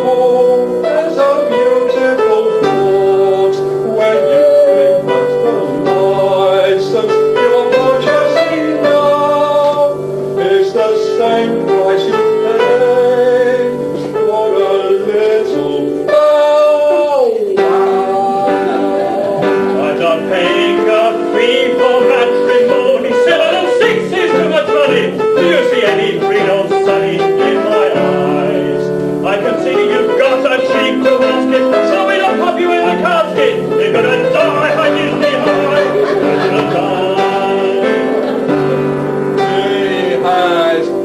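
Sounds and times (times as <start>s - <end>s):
chorus singing: 0.0s - 41.0s.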